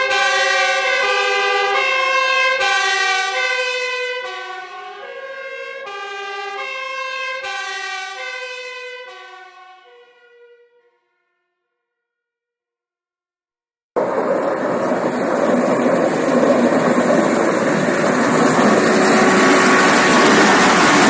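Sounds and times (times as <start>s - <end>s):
emergency vehicle siren: 0.0s - 11.7s, 14.0s - 21.0s.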